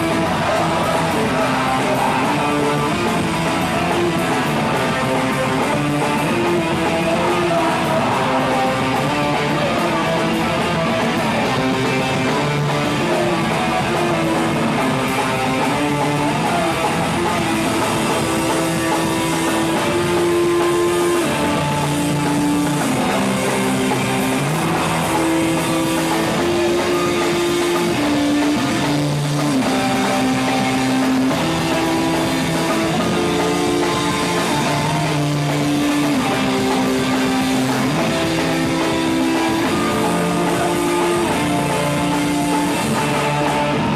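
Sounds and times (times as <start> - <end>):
distorted electric guitars: 0.0 - 43.9
drums: 0.0 - 43.9.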